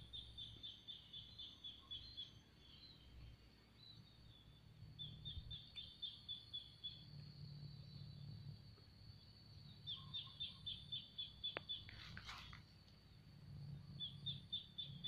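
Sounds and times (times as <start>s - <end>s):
bird chirping: 0.0s - 15.0s
faint high hum: 0.0s - 15.0s
low outdoor rumble: 2.0s - 15.0s.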